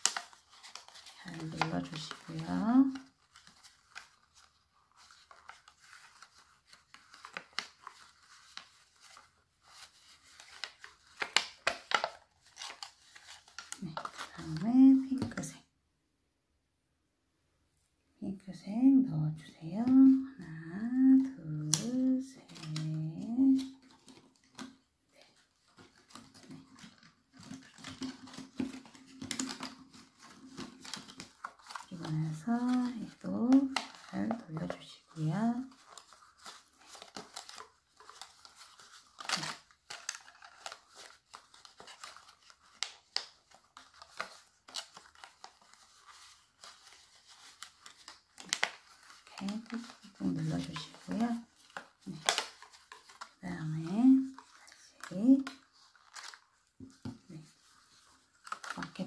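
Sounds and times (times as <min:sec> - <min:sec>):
fabric and plastic rustling: 0:00.0 - 0:15.6, 0:19.6 - 0:59.0.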